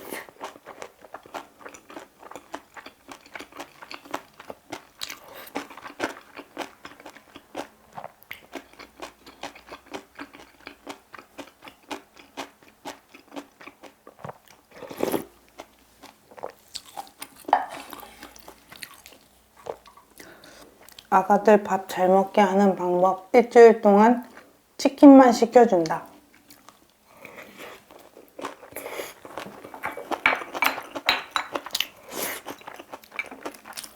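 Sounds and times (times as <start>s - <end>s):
close-up crunchy chewing: 0.1s - 21.1s, 26.4s - 33.9s.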